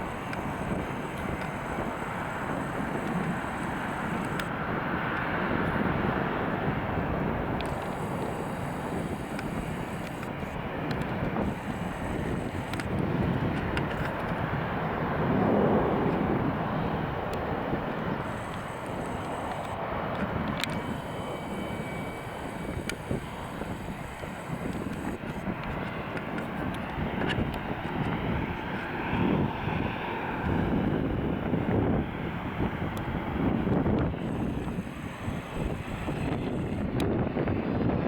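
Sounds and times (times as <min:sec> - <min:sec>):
jet engine rumble: 0:00.0 - 0:38.0.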